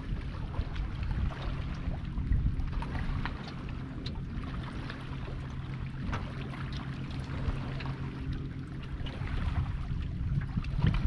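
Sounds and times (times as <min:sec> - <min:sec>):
low steady hum: 0:00.0 - 0:11.0
water lapping against boat hull: 0:00.0 - 0:11.0.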